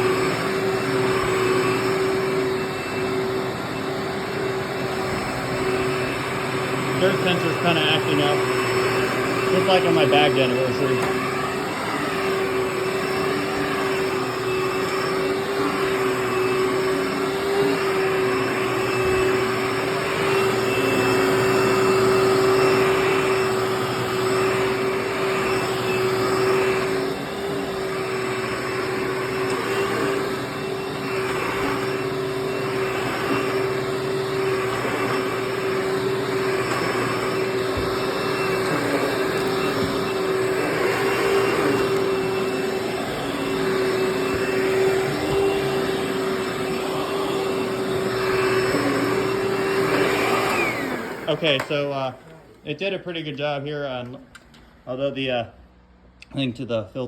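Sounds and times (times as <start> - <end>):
vacuum cleaner running: 0.0 - 56.2.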